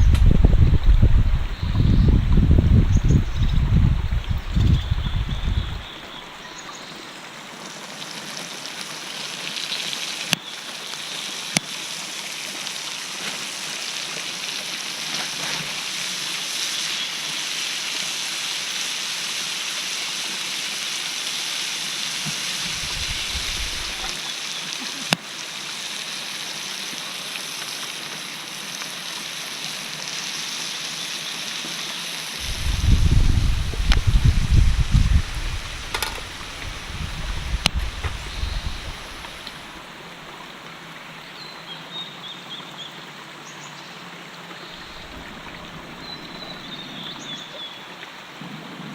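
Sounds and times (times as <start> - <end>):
brook babbling: 0.0 - 48.9.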